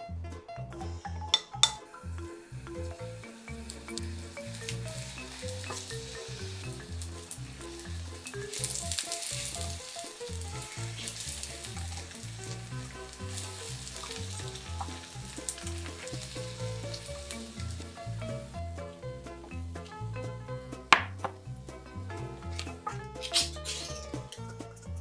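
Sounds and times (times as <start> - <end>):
background music with repeating notes: 0.0 - 25.0
batter sizzling in frying pan: 1.3 - 24.3.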